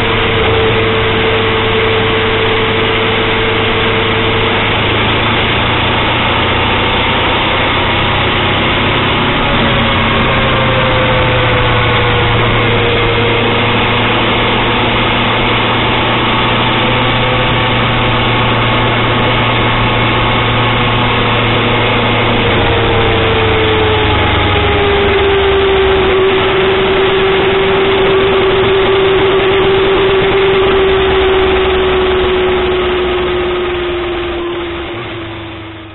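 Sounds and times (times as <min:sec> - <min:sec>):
car engine and road noise: 0:00.0 - 0:35.9.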